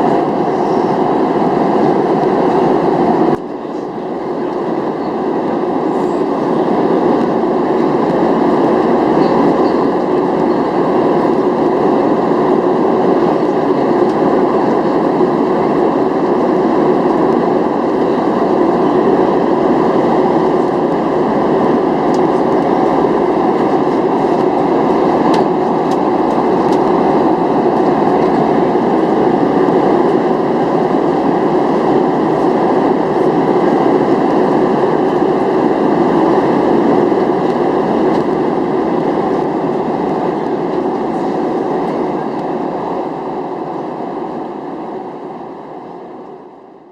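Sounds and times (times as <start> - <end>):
jet cabin roar: 0.0 - 46.9.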